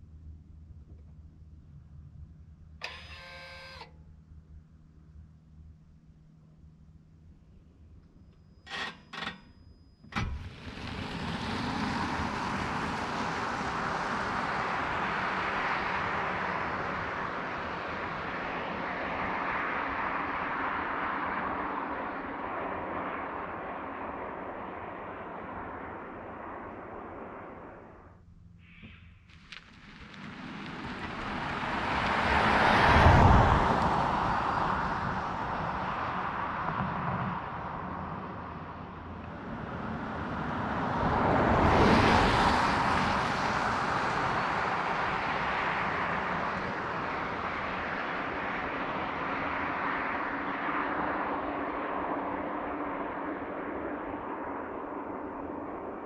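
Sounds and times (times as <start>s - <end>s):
electric car passing: 2.8s - 4.0s, 8.1s - 28.1s, 30.0s - 56.0s
tyre and road noise: 8.6s - 28.0s, 28.7s - 55.6s.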